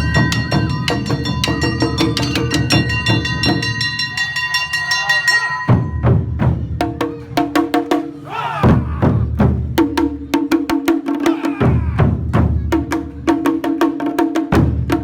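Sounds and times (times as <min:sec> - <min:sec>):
drums in a driving rhythm: 0:00.0 - 0:04.2, 0:04.9 - 0:15.0.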